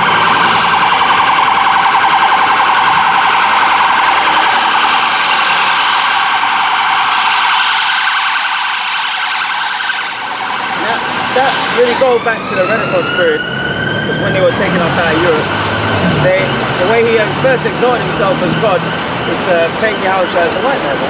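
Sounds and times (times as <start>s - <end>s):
siren warbling: 0.0s - 21.0s.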